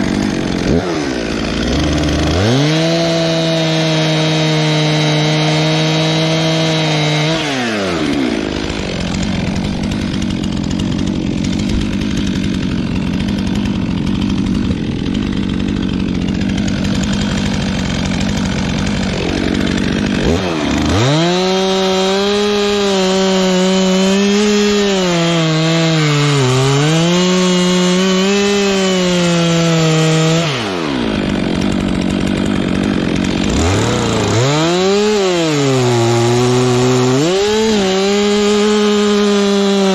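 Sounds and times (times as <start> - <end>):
chainsaw cutting logs: 0.0 - 39.9
chainsaw revving: 0.0 - 39.9.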